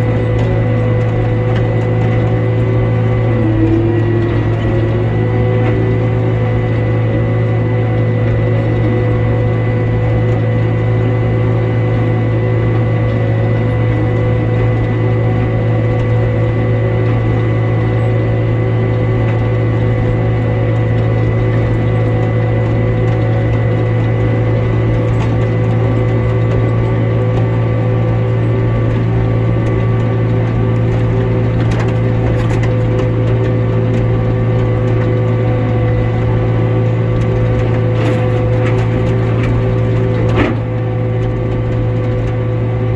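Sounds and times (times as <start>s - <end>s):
gear whine: 0.0s - 42.9s
tractor low drone: 0.0s - 42.9s.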